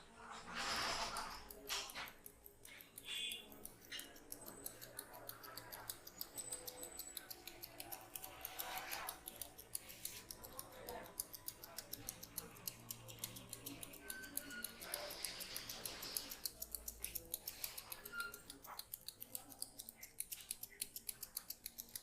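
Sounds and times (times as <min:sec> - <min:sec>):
faint background sounds: 0:00.0 - 0:22.0
rapid light clicking: 0:01.0 - 0:22.0.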